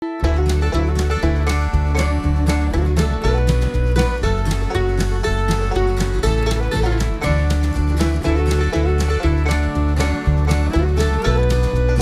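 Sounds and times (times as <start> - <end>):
upbeat bluegrass music: 0.0 - 12.0.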